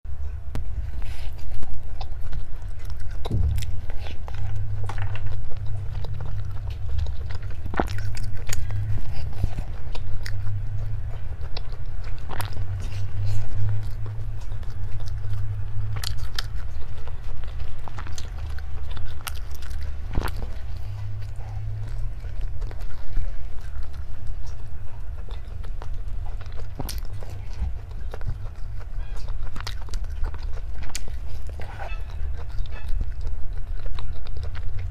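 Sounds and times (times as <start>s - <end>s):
steady low hum: 0.1s - 34.9s
chewing and biting: 0.5s - 34.9s
crisp crunches: 0.9s - 34.9s.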